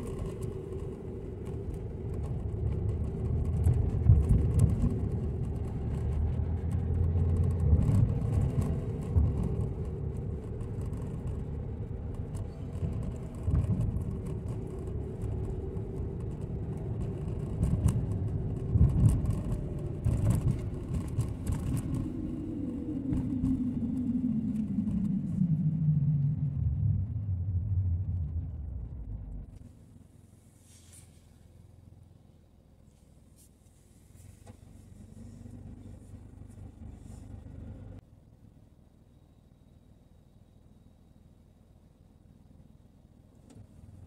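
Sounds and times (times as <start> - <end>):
car engine: 0.0 - 44.0
tyre road noise: 0.0 - 44.0.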